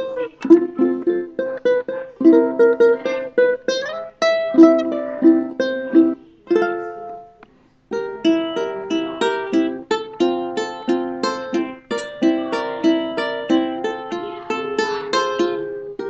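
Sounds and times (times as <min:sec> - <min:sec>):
plucked ukulele-like music: 0:00.0 - 0:16.0.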